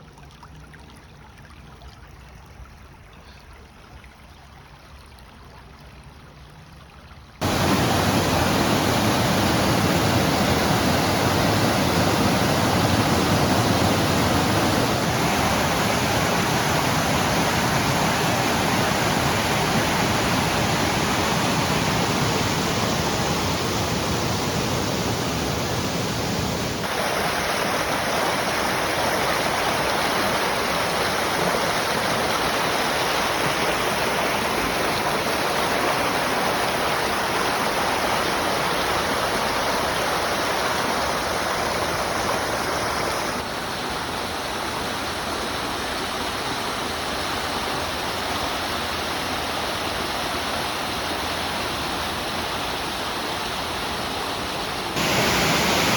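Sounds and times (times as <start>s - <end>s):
running water rushing: 0.0s - 55.9s.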